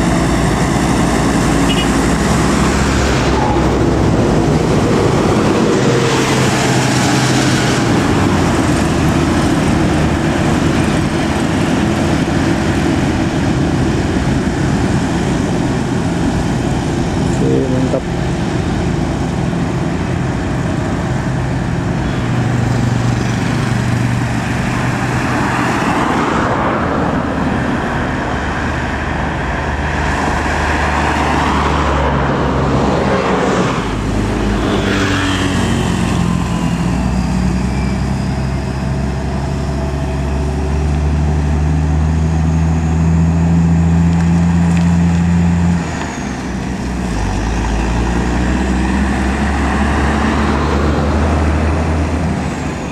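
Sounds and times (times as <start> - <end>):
heavy road traffic: 0.0 - 52.9
steady engine drone: 0.0 - 52.9
vehicle rushing past: 0.0 - 52.9.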